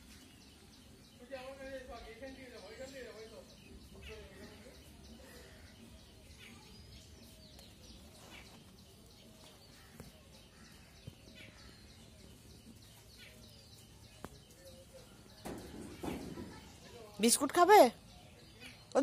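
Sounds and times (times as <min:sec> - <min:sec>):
faint bird chirps: 0:01.8 - 0:19.0.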